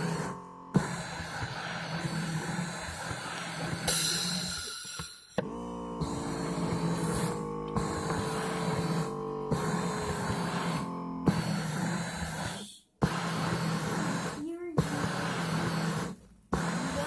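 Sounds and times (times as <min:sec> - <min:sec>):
foot massager motor whining: 0:00.0 - 0:17.0.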